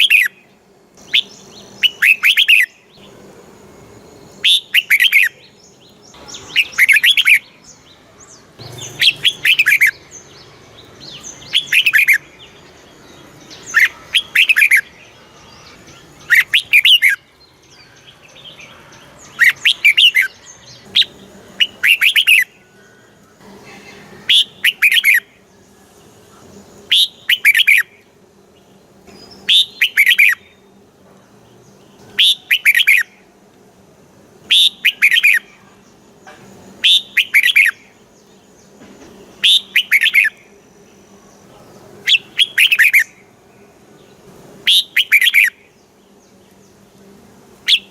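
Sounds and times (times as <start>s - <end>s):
bird singing chirpy phrases: 0.0s - 3.3s, 3.9s - 33.4s, 34.4s - 47.9s.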